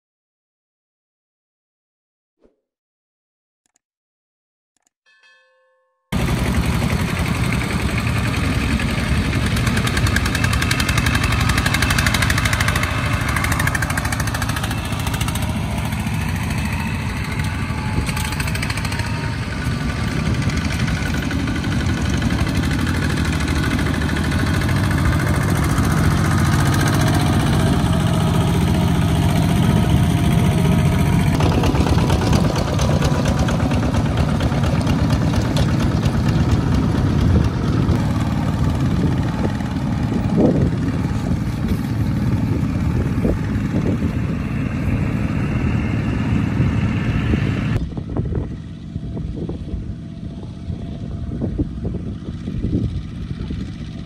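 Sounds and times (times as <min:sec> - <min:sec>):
diesel tractor engines running: 0:06.2 - 0:54.0.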